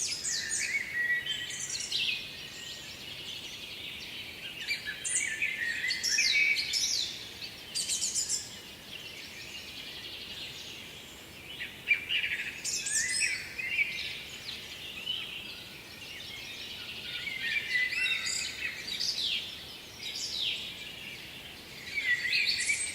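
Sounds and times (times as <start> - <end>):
songbirds singing: 0.0 - 22.9.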